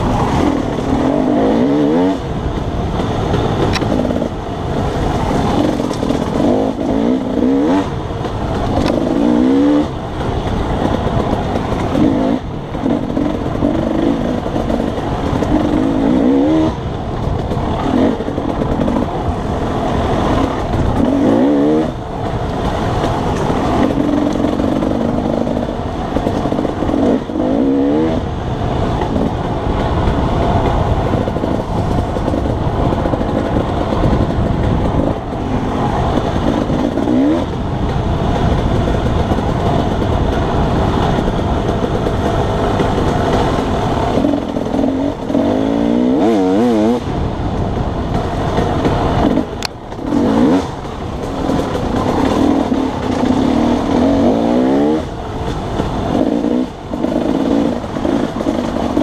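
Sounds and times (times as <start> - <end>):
dirt bike engine revving: 0.0 - 47.2, 48.1 - 59.0.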